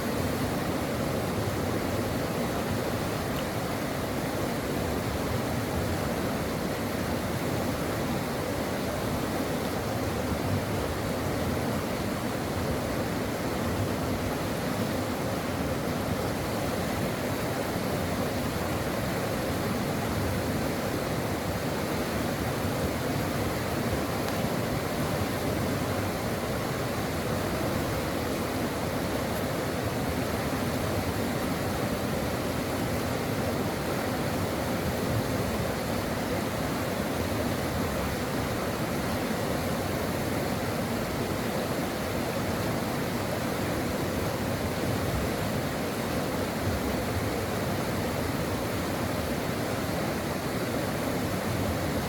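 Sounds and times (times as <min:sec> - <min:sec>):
brook water flowing: 0:00.0 - 0:52.0.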